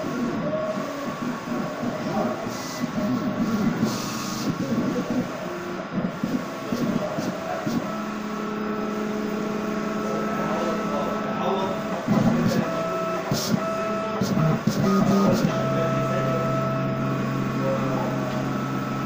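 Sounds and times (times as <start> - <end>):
printer and plotter clatter: 0.0 - 19.0
steady motor hum: 0.0 - 19.0.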